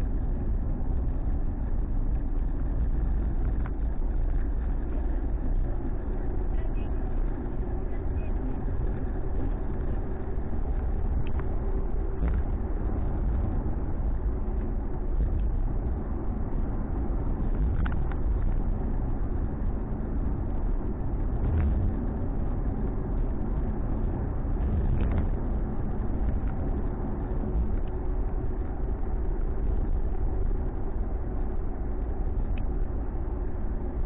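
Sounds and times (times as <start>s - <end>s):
engine and road rumble: 0.0s - 34.0s.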